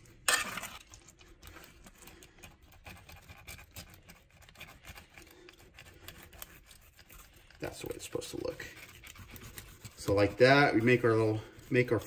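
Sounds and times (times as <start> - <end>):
knife scratching fish skin: 0.3 - 12.0.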